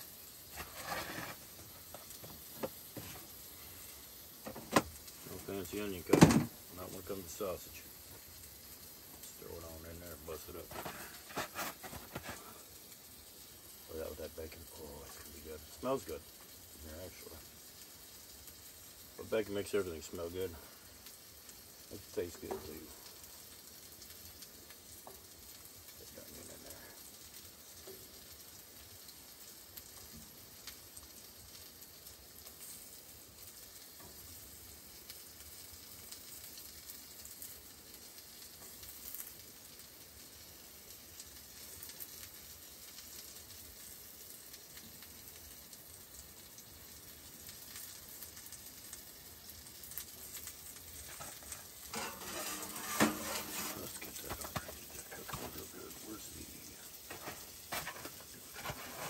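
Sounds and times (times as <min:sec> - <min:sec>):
sausage and bacon frying: 0:00.0 - 0:59.0.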